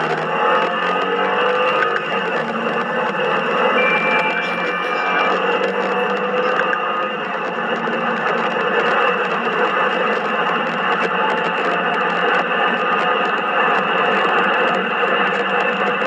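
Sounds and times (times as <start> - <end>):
car engine accelerating hard: 0.0 - 3.8, 5.4 - 16.0
road noise: 0.0 - 16.0.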